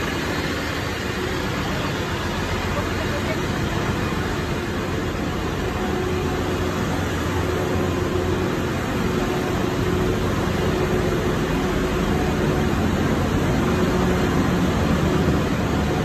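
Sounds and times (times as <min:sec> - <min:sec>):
constant hum: 0:00.0 - 0:16.0
engine room machinery drone: 0:00.0 - 0:16.0.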